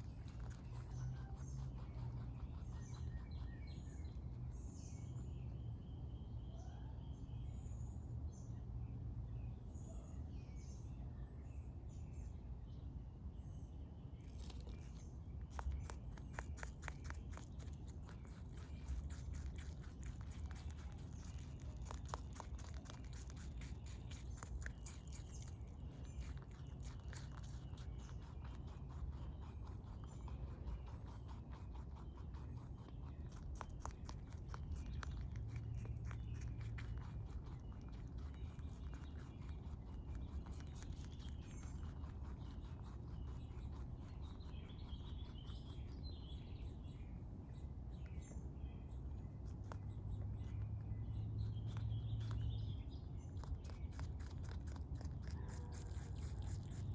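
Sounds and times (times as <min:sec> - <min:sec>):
rabbit chewing: 0:00.0 - 0:07.4, 0:11.7 - 0:56.9
birds chirping: 0:00.0 - 0:56.9
low steady rumble: 0:00.0 - 0:56.9.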